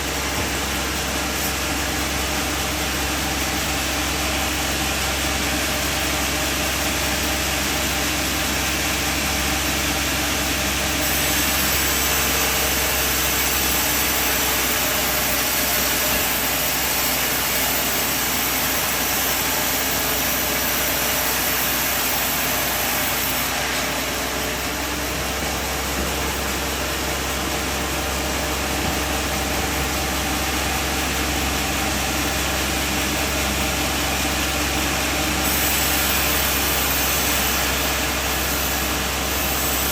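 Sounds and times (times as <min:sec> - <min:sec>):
band sawmill sawing timber: 0:00.0 - 0:39.9.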